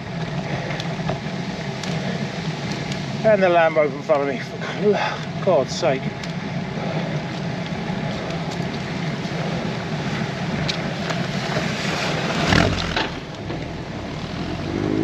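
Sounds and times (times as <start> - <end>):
car engine running slowly: 0.0 - 15.0.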